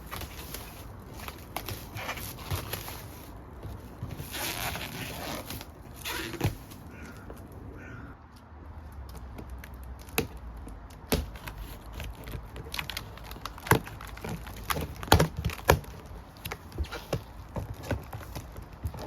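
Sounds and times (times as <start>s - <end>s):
clicks and knocks handling packaging: 0.0s - 7.4s, 9.1s - 19.0s.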